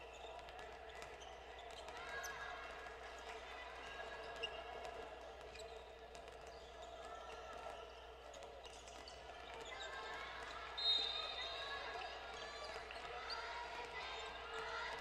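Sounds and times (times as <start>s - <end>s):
distant voices of players: 0.0s - 15.0s.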